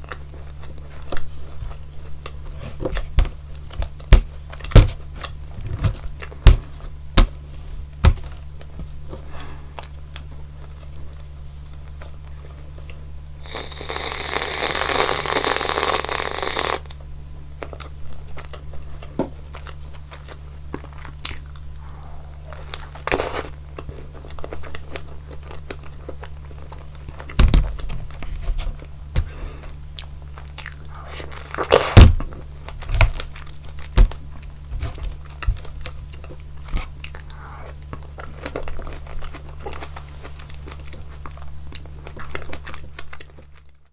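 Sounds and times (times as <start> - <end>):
eating crunches and chewing: 0.0 - 43.9.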